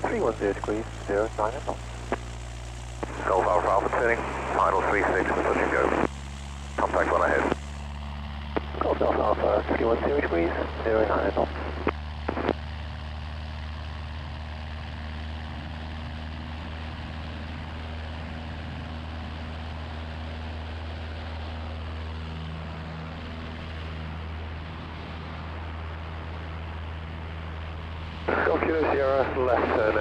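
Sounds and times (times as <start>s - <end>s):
light aircraft engine drone: 0.0s - 30.0s.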